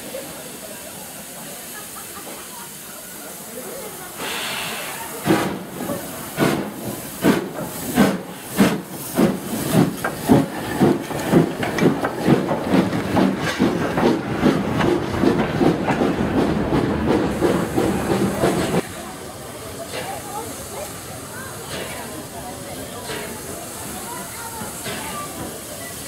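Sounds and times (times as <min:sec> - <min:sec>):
steam hissing: 0:00.0 - 0:26.0
steam locomotive exhaust beats: 0:00.0 - 0:26.0.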